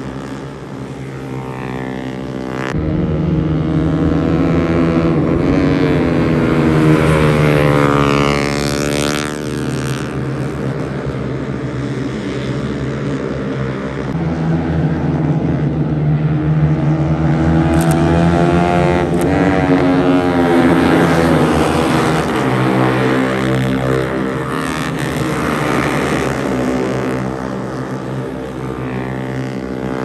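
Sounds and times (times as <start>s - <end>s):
drone of motorcycles: 0.0s - 30.0s
motorcycle passing close: 0.0s - 30.0s.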